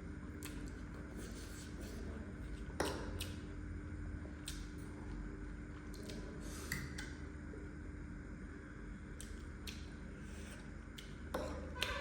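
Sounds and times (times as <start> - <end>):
low background hum and hiss: 0.0 - 12.0.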